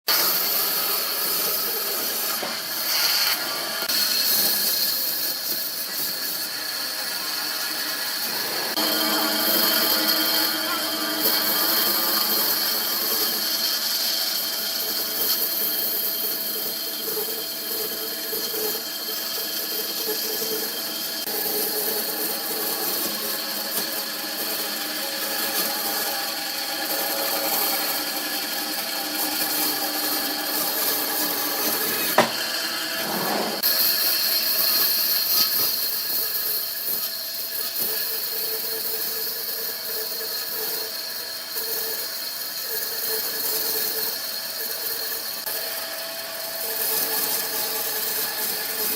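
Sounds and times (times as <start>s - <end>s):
woodworking power tool running: 0.1s - 48.9s.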